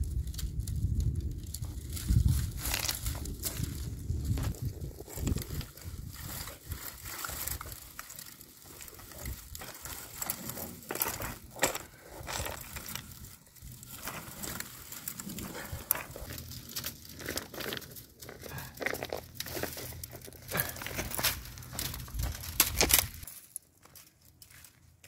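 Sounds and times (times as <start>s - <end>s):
dry brushwood crackling and rustling: 0.0s - 25.0s.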